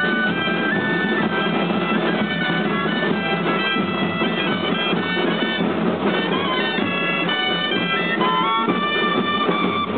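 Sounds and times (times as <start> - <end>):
drums beating: 0.0 - 9.9
shawms playing street melody: 0.0 - 9.9.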